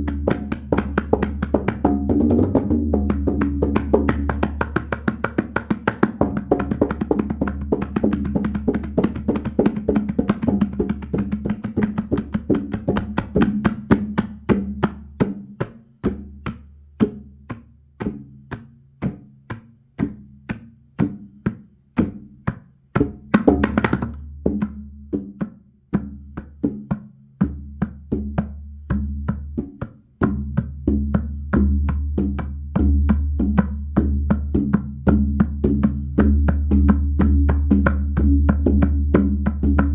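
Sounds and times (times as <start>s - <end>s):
tabla strokes: 0.0s - 39.9s.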